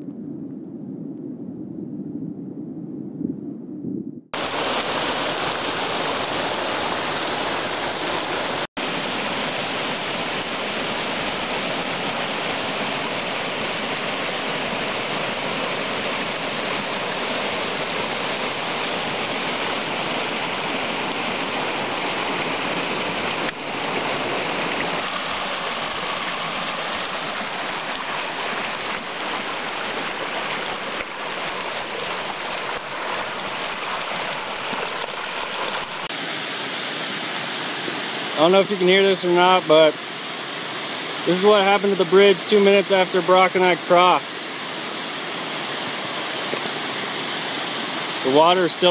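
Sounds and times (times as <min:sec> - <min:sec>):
floodwater rushing in creek: 0:04.4 - 0:48.9.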